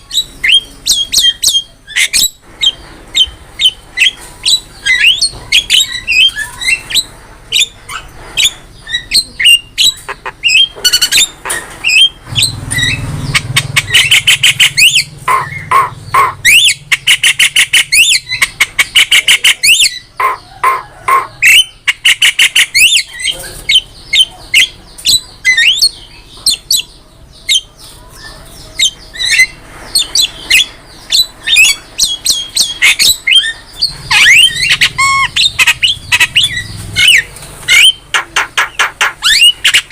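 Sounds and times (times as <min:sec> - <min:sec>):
bird singing squawks and whistles: 0:00.0 - 0:39.9.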